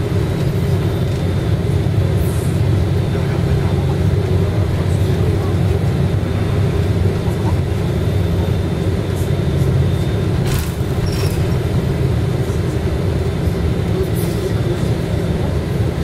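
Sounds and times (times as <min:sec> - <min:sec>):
bus engine and road drone: 0:00.0 - 0:16.0.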